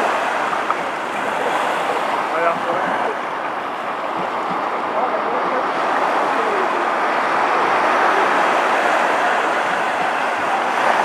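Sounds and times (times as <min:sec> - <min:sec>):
waves breaking on sandy beach: 0:00.0 - 0:11.0.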